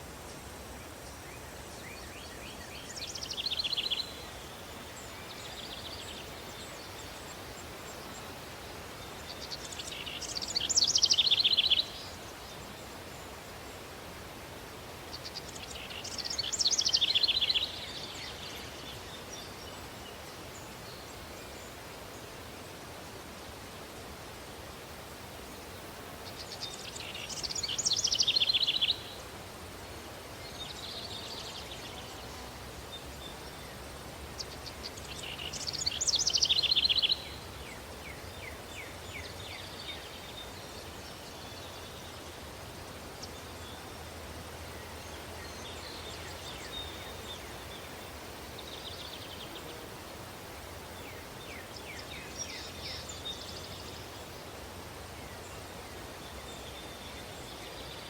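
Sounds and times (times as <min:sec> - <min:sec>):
songbirds singing: 0:00.0 - 0:22.8, 0:23.4 - 0:58.0
outdoor hiss: 0:00.0 - 0:58.0.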